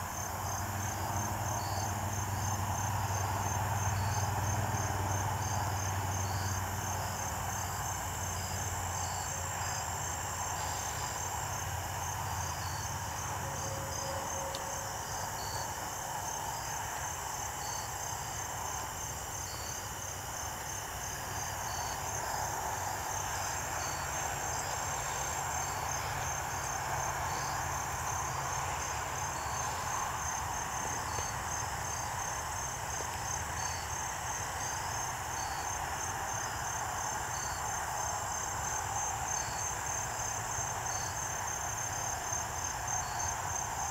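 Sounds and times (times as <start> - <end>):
crickets chirping: 0.0 - 43.9.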